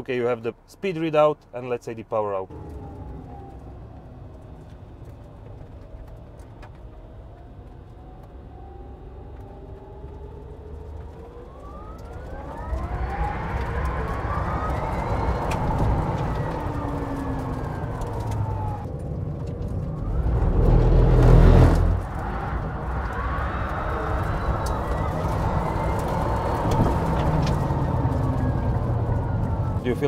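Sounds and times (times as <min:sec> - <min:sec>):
road and tyre noise: 0:00.0 - 0:30.0.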